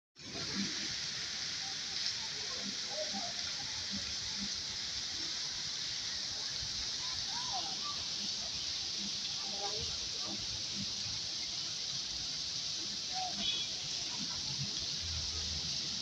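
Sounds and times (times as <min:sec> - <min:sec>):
heavy rain on street: 0:00.2 - 0:16.0.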